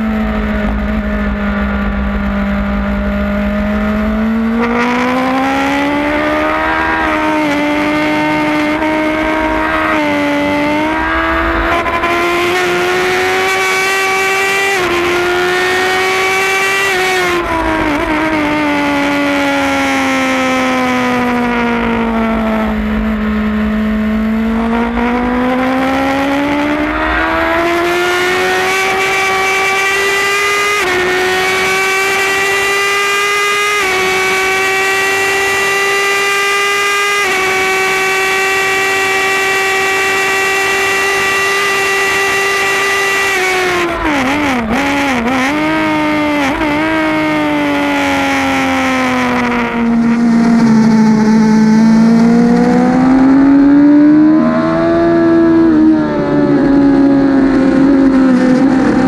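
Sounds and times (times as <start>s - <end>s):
race motorcycle engine revving: 0.0s - 59.0s
throttle blips on downshifts: 0.0s - 59.0s.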